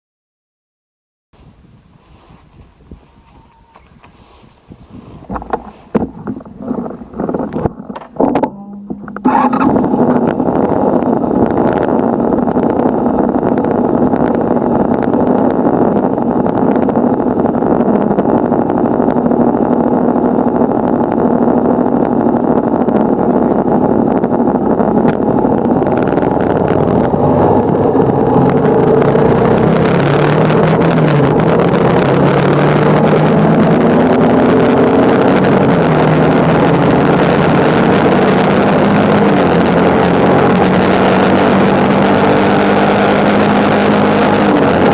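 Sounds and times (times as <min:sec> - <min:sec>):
wind noise on microphone: 0:01.4 - 0:44.9
motorcycle engine running: 0:02.5 - 0:44.9.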